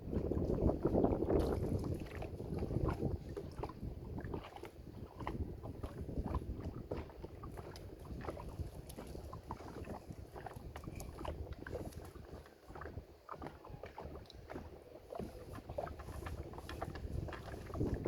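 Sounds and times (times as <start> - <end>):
water sloshing: 0.0 - 18.0
wind rumbling on microphone: 0.0 - 18.0
knocks around boat: 0.1 - 18.0.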